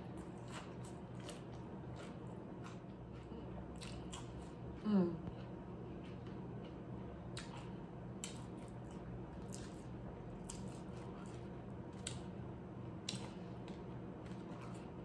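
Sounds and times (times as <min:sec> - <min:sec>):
chewing crunchy chips: 0:00.0 - 0:04.8, 0:05.4 - 0:12.3, 0:13.0 - 0:15.0.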